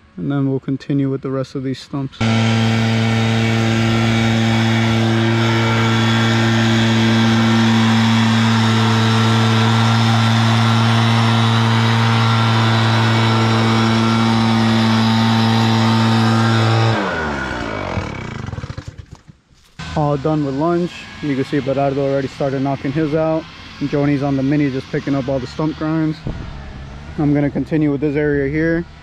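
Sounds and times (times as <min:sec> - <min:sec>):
high whine: 0:02.2 - 0:18.9, 0:19.6 - 0:29.0
stump grinder engine running: 0:02.2 - 0:25.7.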